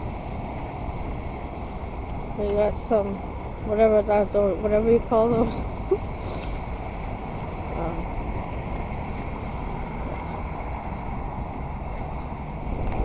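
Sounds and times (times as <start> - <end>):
city traffic rumble: 0.0 - 13.0
wind noise on microphone: 0.0 - 13.0.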